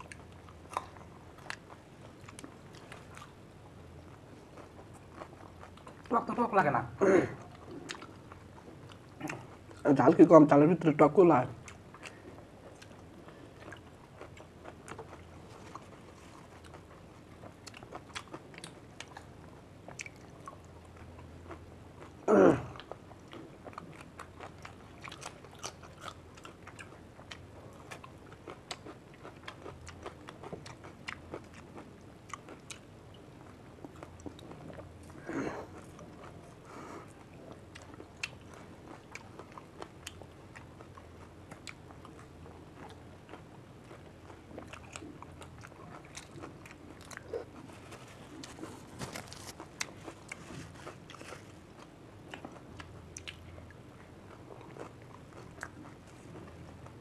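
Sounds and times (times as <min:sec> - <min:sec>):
people chewing crunchy food: 0:00.0 - 0:06.6, 0:07.3 - 0:57.0.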